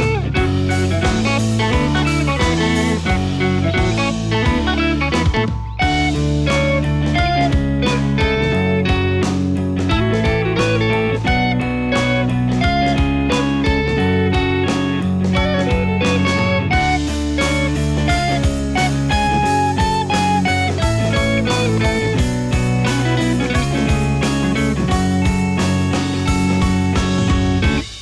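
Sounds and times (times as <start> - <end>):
bluesy electric guitar instrumental: 0.0 - 28.0.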